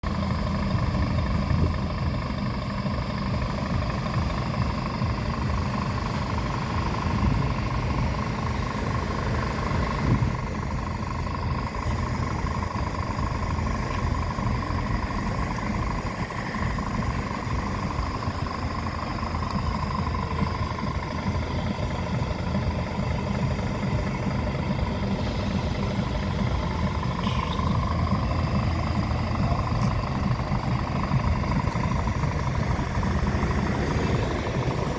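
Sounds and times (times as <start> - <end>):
constant higher whine: 0.0 - 34.9
truck engine drone: 0.0 - 34.9.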